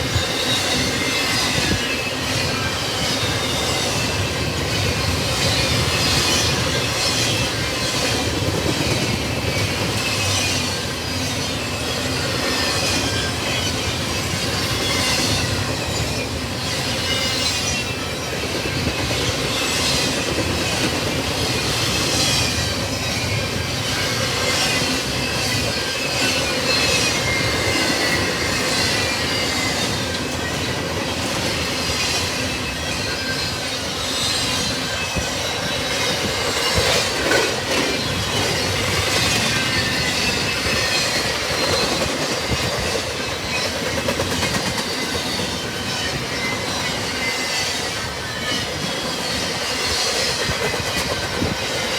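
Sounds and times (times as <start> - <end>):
freight cars clattering on rails: 0.0 - 51.9
steel wheels squealing: 0.0 - 51.9.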